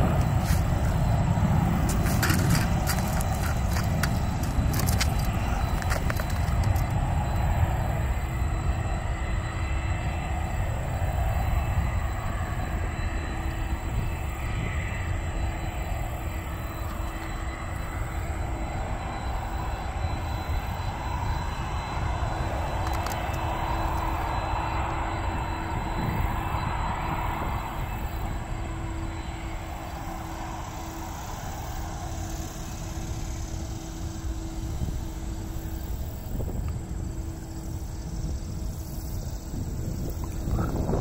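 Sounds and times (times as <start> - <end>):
distant jet engines rumbling: 0.0 - 41.0.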